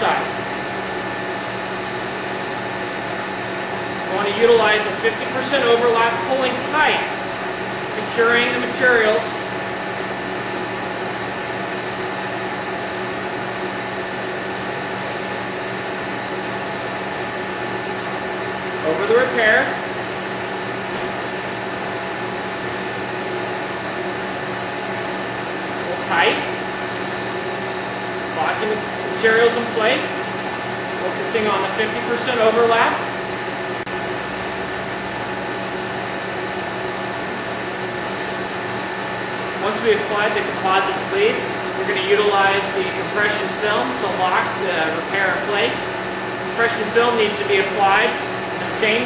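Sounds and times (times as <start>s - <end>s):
low machine hum: 0.0s - 49.0s.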